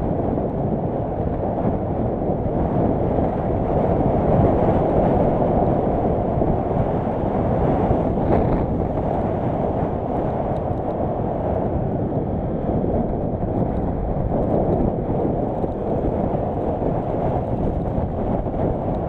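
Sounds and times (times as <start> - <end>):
moving train rumbling: 0.0 - 19.0.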